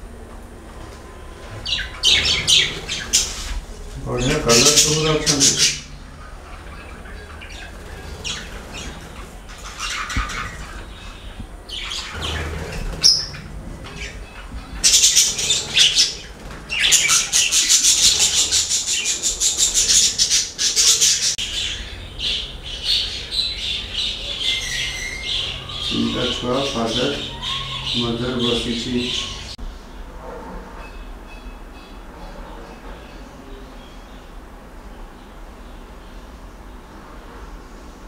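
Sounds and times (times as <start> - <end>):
birds chirping and squawking: 0.7 - 38.0.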